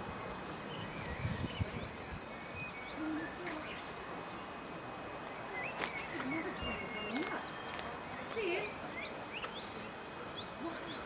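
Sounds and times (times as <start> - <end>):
birds chirping and singing: 0.0 - 11.0
steady background hiss: 0.0 - 11.0.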